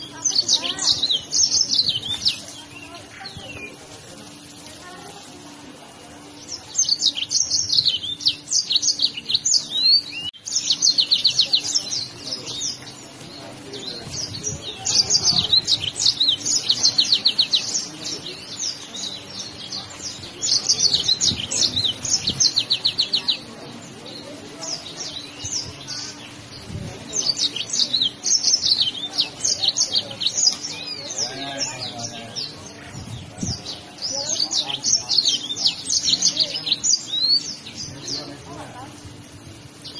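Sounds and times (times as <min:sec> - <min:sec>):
canary singing trills: 0:00.0 - 0:04.7, 0:06.3 - 0:39.9.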